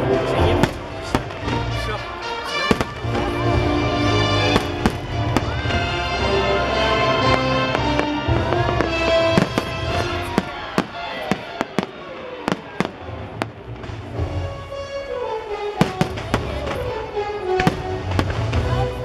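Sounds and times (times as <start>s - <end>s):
show music: 0.0s - 19.0s
fireworks bursting and cracking: 0.2s - 1.9s, 2.5s - 14.6s, 15.8s - 17.0s, 17.6s - 19.0s.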